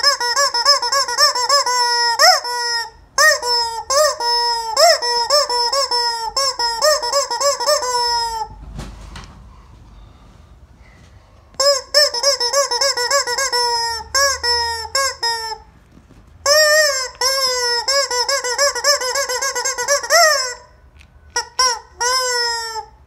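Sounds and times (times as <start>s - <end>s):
rubber chicken toy squawking: 0.0s - 8.6s, 11.6s - 15.7s, 16.4s - 23.0s.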